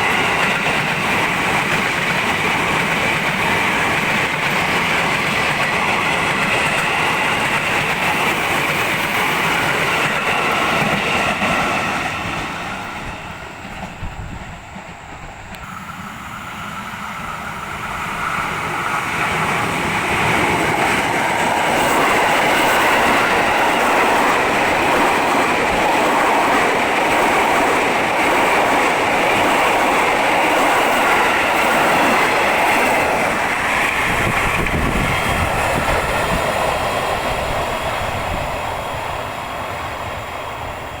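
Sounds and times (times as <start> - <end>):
electric train running past: 0.0 - 41.0.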